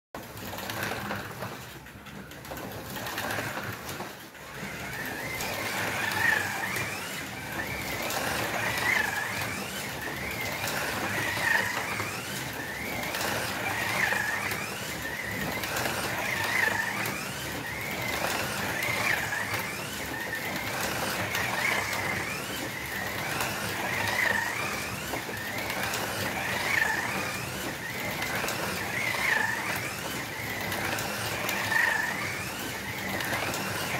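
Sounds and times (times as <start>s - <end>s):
slot car motors whining: 0.2s - 33.9s.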